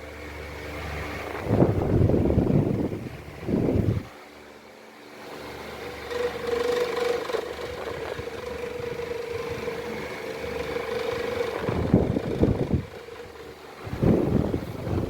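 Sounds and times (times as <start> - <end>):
desk fan running: 0.0 - 15.0.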